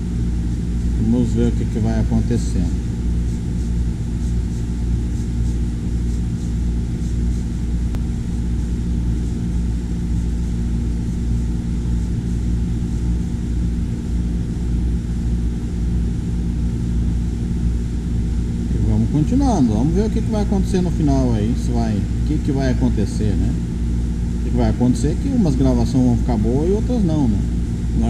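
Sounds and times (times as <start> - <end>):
laser engraver humming: 0.0 - 28.0.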